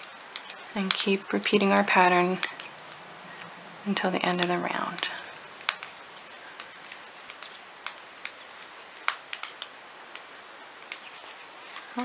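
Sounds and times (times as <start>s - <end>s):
faint room hiss: 0.0s - 12.0s
knitting needles clicking: 0.0s - 12.0s.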